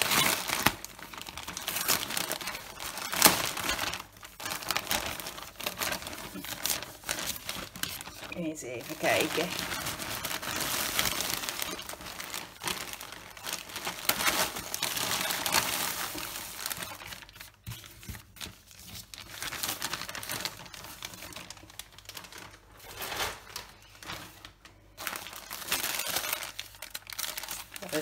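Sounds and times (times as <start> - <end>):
plastic and paper crinkling: 0.0 - 28.0.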